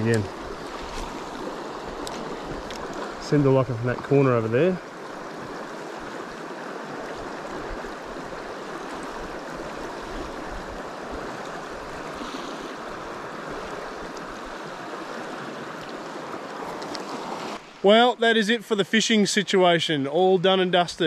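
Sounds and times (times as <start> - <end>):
river rushing over stones: 0.0 - 18.5.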